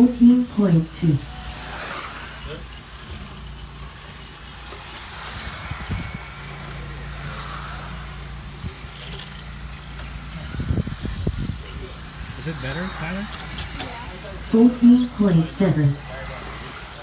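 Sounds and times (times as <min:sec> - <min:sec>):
electric rc car motors whining: 0:00.0 - 0:17.0.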